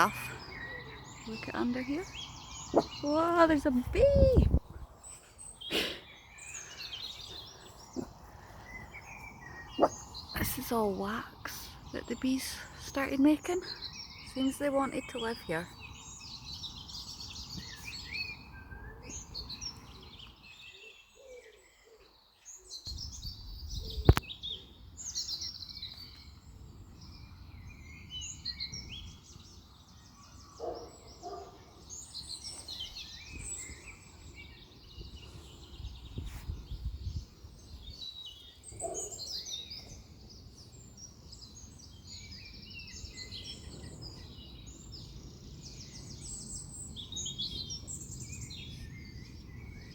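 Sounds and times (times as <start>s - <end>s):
low rumble of wind: 0.0s - 14.4s, 22.9s - 49.9s
birds singing and chirping: 0.0s - 49.9s.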